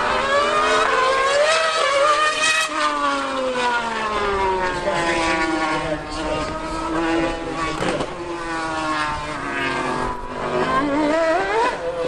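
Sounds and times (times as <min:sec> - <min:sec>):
racing engines revving: 0:00.0 - 0:12.0.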